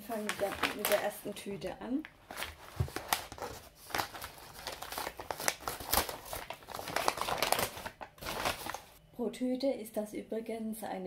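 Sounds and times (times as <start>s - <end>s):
paper bag rustling and crinkling: 0.0s - 9.0s.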